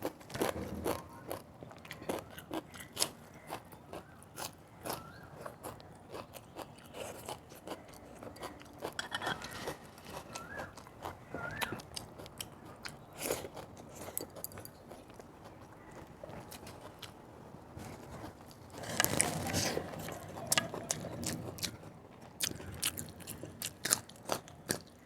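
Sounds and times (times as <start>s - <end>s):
person chewing crunchy food: 0.0s - 17.2s, 17.8s - 25.0s.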